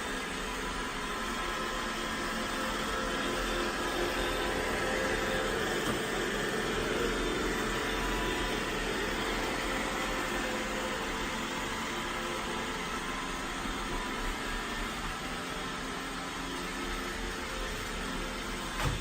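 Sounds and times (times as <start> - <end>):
robot vacuum whirring: 0.0 - 19.0.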